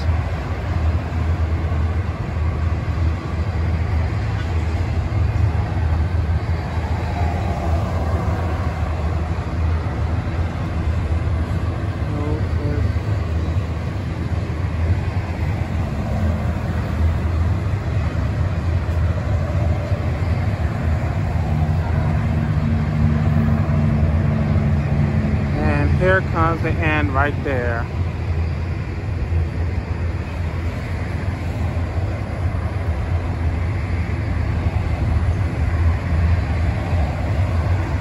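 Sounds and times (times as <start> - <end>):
freight train wheels rumbling on rail: 0.0 - 38.0.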